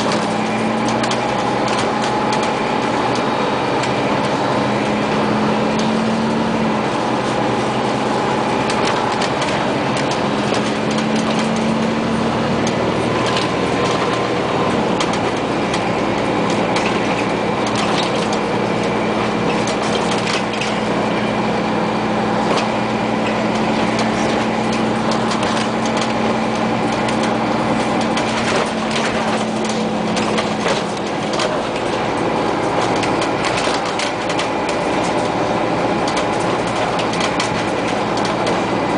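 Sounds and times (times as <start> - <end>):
bus body rattling and knocking: 0.0 - 38.9
bus engine humming: 0.0 - 38.9
road noise: 0.0 - 38.9.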